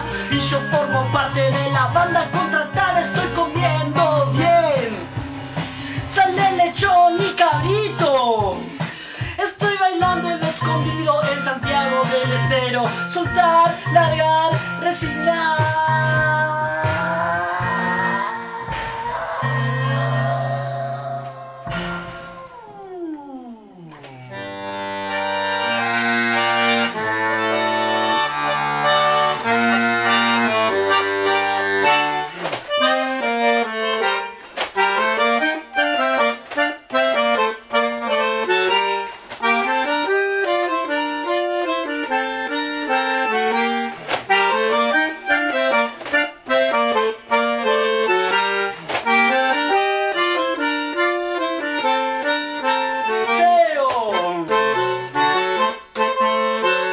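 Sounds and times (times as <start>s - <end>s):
bandoneon playing: 0.0s - 8.0s, 10.0s - 22.8s, 24.3s - 56.9s.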